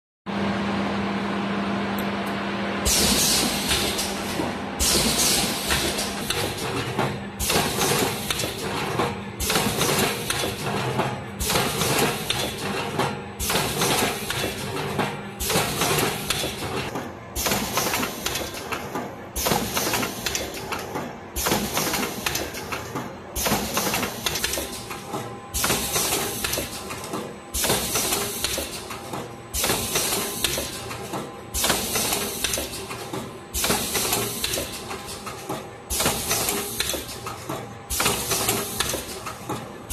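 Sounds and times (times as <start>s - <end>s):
filling and sealing machine running: 0.3s - 39.9s.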